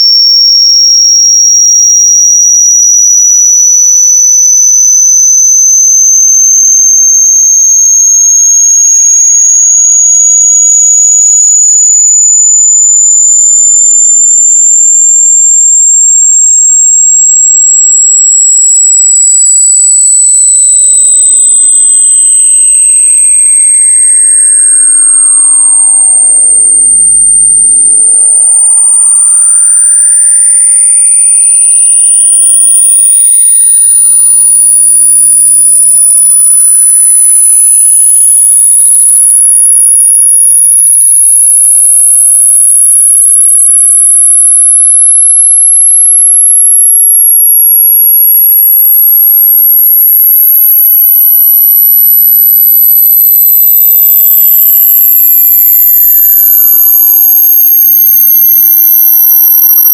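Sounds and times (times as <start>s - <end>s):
high-pitched electronic sine tone: 0.0s - 59.9s
sweeping whistling tones: 0.0s - 59.9s.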